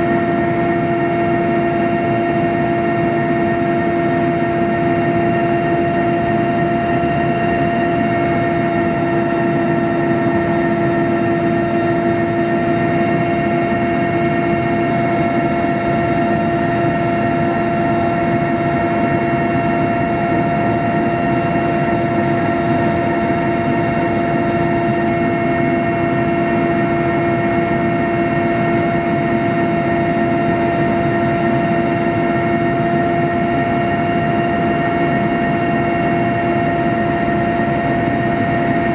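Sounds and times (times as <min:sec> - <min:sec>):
helicopter cabin drone: 0:00.0 - 0:38.9
high turbine whine: 0:00.0 - 0:38.9.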